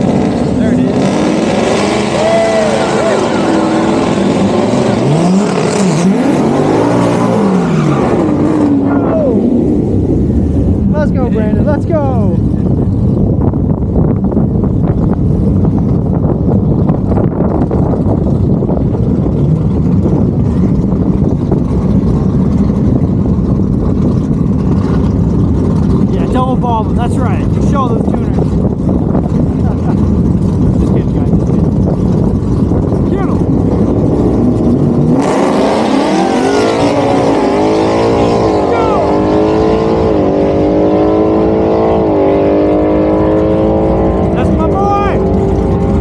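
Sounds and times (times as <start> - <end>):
car engine rumbling: 0.0 - 46.0.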